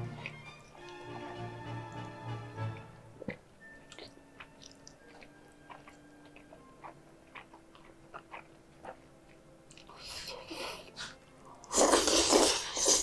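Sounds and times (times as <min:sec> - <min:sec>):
wet mouth clicks chewing noodles: 0:02.0 - 0:13.0.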